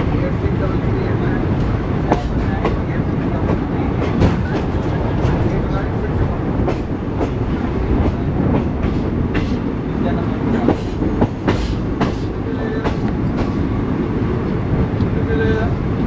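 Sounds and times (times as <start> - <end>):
train coach rumbling: 0.0 - 16.0.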